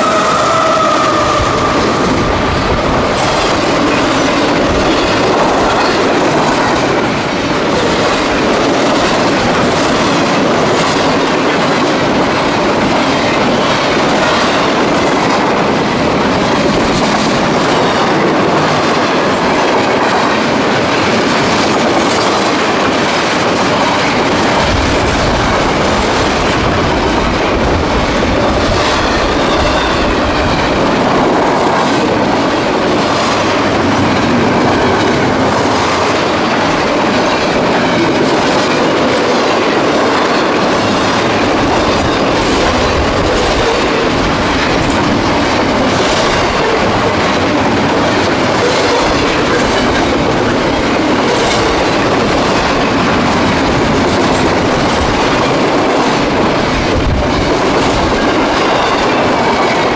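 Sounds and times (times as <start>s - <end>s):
steel train wheels rumbling on rails: 0.0s - 59.9s.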